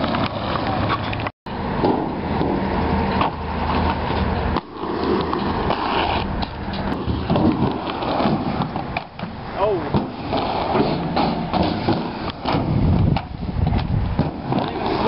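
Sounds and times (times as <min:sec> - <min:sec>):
skate wheels rolling on concrete: 0:00.0 - 0:15.0.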